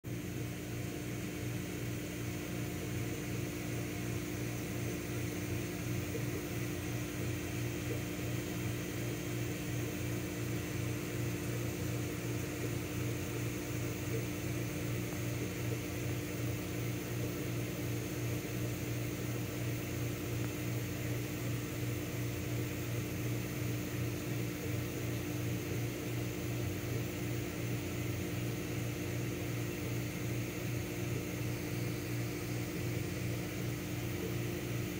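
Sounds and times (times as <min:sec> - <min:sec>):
aquarium equipment humming: 0:00.0 - 0:34.9.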